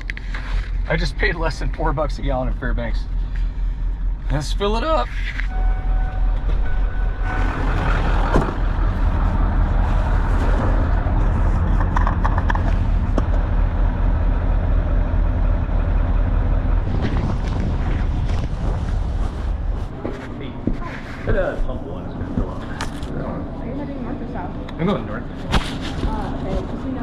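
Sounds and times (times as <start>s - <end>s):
truck engines idling: 0.0s - 27.0s.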